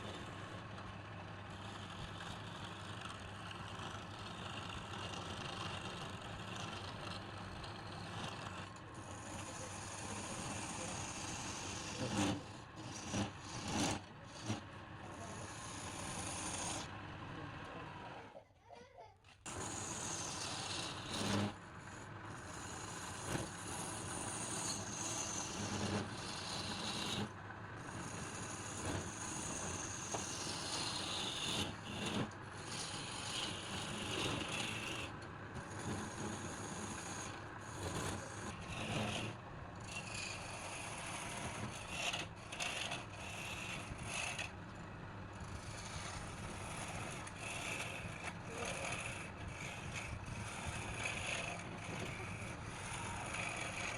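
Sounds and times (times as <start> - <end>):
turning tool scraping wood: 0.0 - 17.0, 19.5 - 53.9
wood lathe running: 0.0 - 18.2, 19.5 - 53.9.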